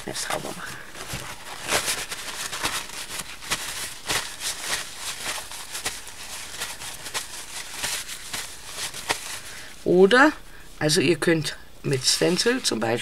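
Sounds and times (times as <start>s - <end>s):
paper tissue rustling: 0.0s - 10.0s, 12.0s - 13.0s.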